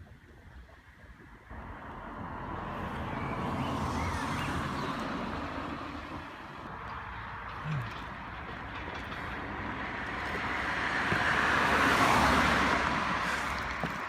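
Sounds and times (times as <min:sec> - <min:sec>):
road vehicle passing: 0:01.5 - 0:14.0.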